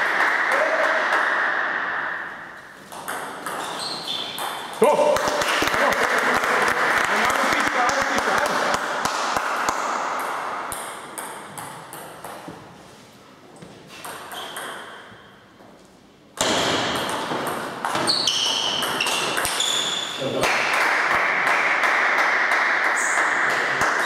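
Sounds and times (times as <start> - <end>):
table tennis ball hits: 0.0 - 12.8, 14.0 - 15.3, 16.4 - 24.0.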